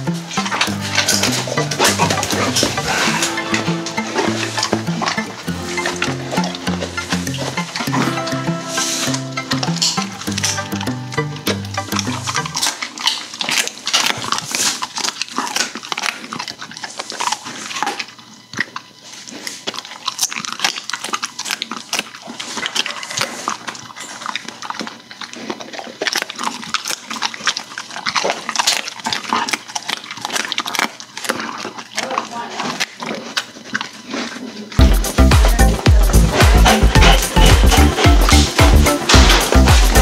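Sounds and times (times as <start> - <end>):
dog chewing and crunching: 0.0 - 40.0
dog snuffling: 0.1 - 20.4, 21.0 - 40.0.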